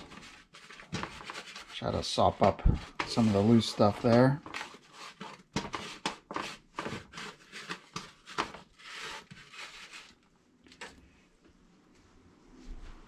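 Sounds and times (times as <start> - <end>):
hands rustling on paper: 0.0 - 10.9.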